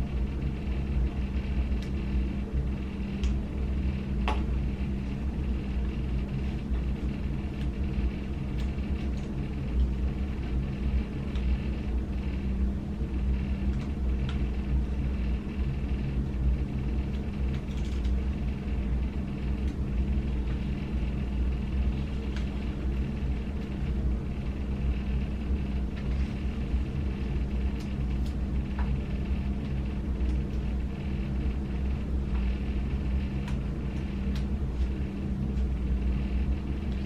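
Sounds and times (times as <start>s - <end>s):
low hum and rumble: 0.0s - 37.0s.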